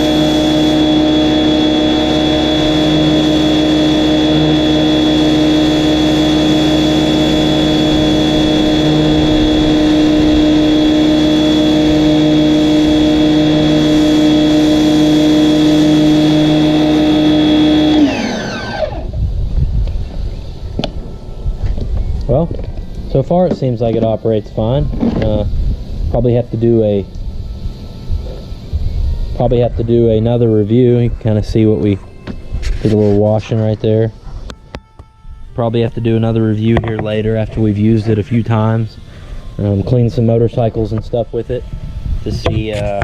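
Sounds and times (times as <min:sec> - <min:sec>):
pressure washer motor humming: 0:00.0 - 0:19.4, 0:20.0 - 0:43.0.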